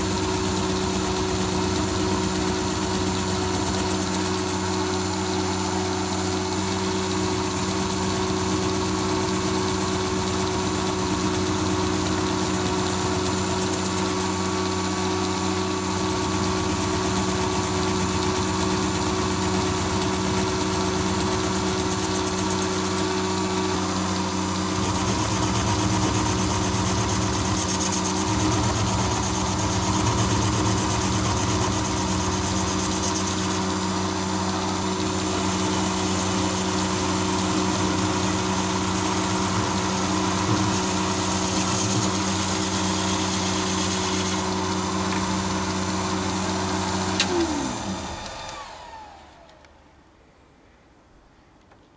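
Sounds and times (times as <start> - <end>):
metal lathe humming with whine: 0.0 - 49.7.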